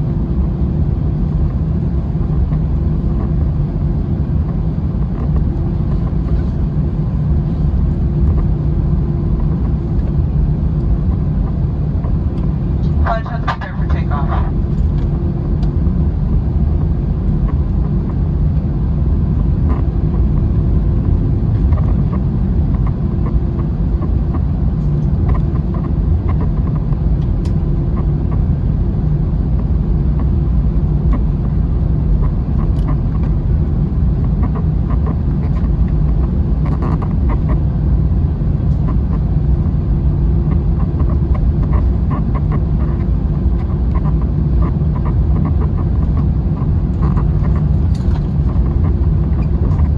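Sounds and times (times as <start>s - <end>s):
airplane engine and airflow rumble: 0.0s - 49.9s
constant hum: 0.0s - 49.9s.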